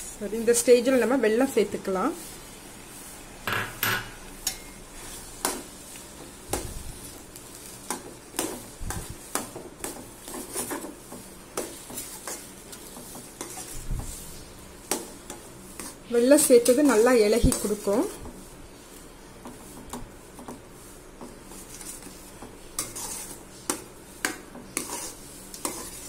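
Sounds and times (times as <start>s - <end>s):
spoon stirring and scraping in pan: 0.0s - 26.0s.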